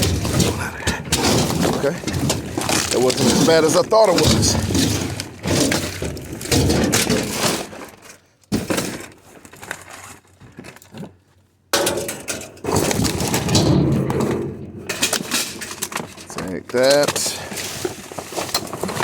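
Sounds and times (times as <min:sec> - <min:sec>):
junk crunching and clinking: 0:00.0 - 0:19.0.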